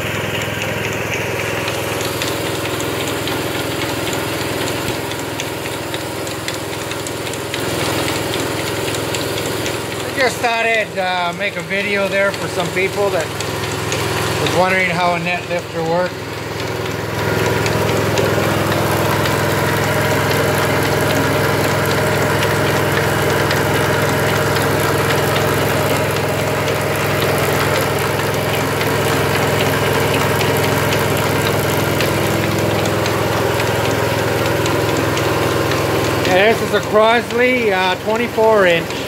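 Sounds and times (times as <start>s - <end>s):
hydraulic power unit droning: 0.0s - 39.0s.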